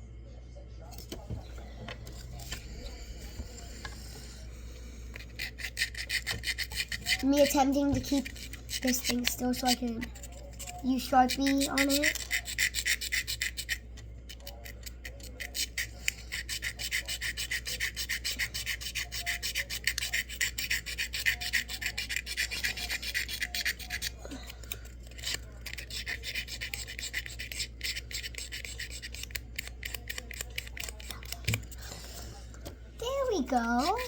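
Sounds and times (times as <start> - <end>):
marker scribbling on paper: 1.8 - 32.4, 33.0 - 34.0.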